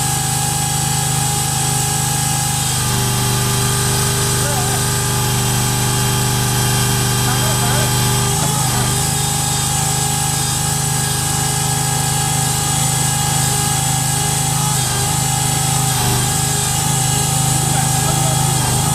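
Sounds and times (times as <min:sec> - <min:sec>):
drilling rig machine drone: 0:00.0 - 0:18.9.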